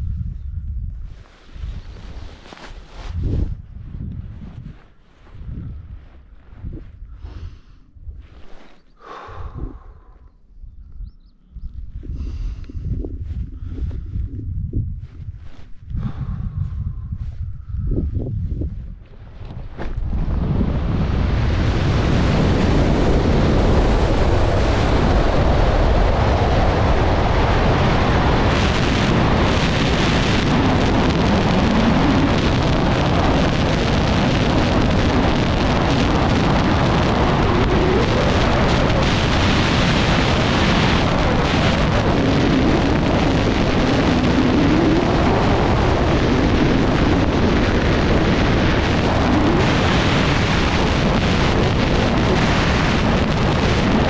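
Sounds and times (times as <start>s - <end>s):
loud airflow rush: 0.0s - 10.5s, 11.6s - 54.0s.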